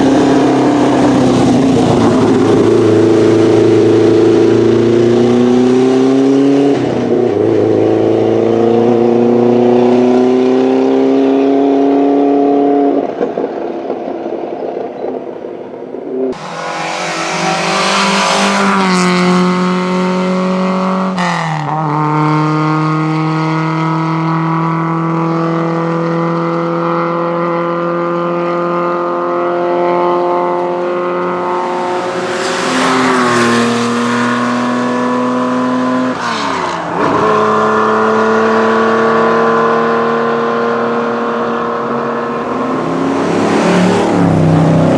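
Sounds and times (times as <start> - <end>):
racing car engines accelerating: 0.0 - 14.8, 16.2 - 44.9.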